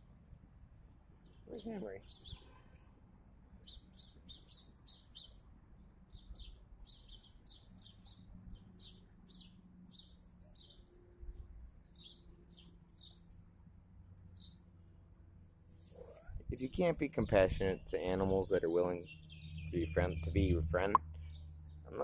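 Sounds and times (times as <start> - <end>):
small birds chirping: 0.8 - 14.8, 15.6 - 22.0.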